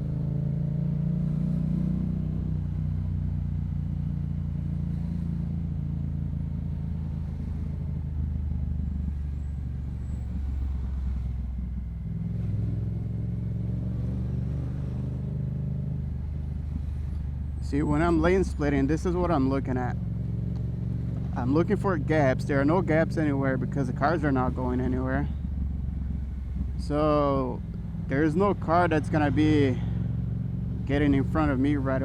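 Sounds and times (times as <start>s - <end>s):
motorcycle engine rumble: 0.0s - 32.0s.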